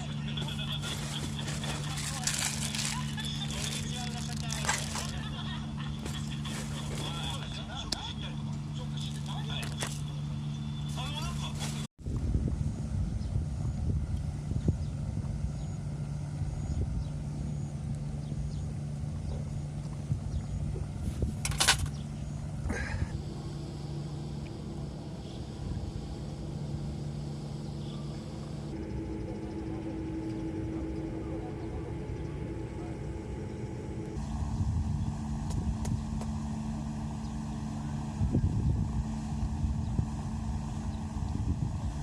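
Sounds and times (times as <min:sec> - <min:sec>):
low engine drone: 0:00.0 - 0:42.0.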